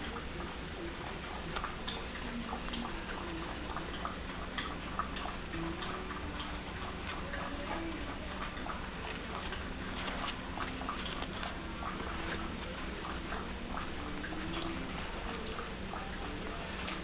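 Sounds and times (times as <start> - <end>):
puppies' claws clicking: 0.0 - 17.0.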